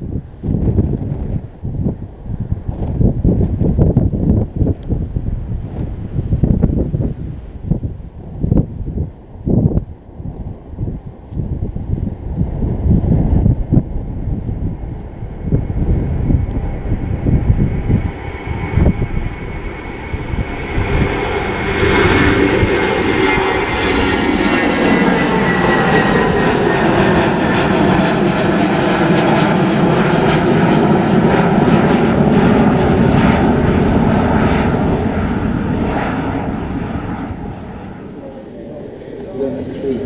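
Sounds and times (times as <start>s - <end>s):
aircraft engines whining: 0.0s - 40.0s
wind buffeting microphone: 0.0s - 40.0s.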